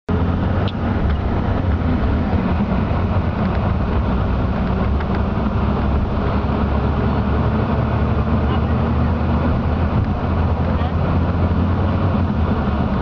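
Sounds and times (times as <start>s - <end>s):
vehicle engine and road rumble: 0.1s - 13.0s.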